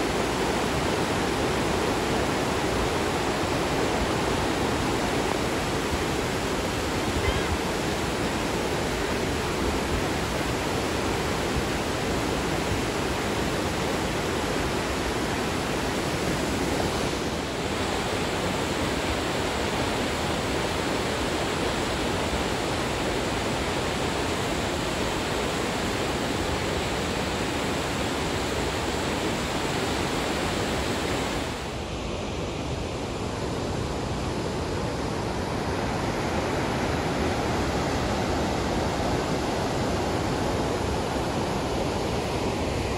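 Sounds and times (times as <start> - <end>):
white water rushing: 0.0 - 42.9.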